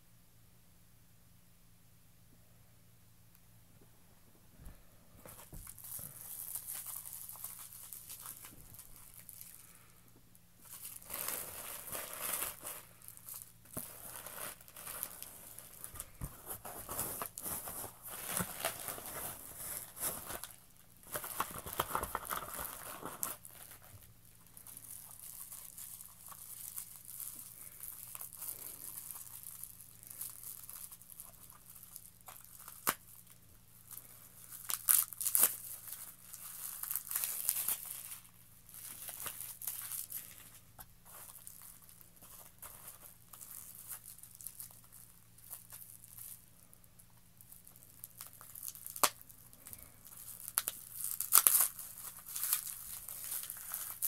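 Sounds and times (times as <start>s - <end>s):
plastic wrap crinkling and tearing: 5.2s - 10.0s, 10.6s - 54.0s.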